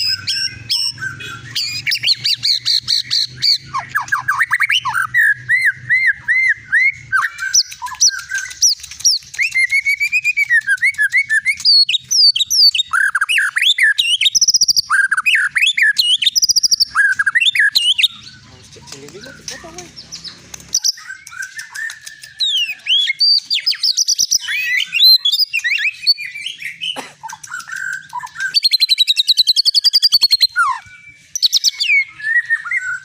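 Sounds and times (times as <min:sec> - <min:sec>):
songbird whistles and trills: 0:00.0 - 0:33.0.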